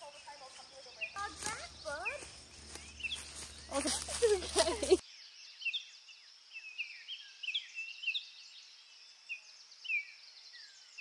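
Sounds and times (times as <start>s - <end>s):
songbirds chirping and whistling: 0.0s - 11.0s.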